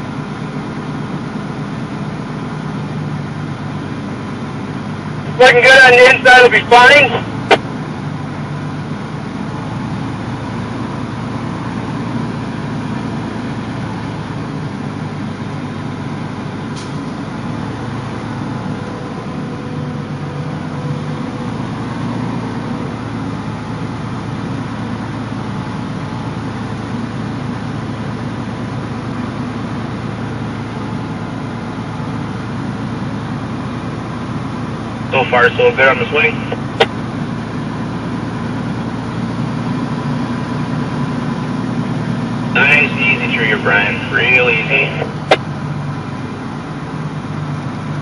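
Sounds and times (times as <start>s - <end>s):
diesel truck engine humming: 0.0s - 48.0s.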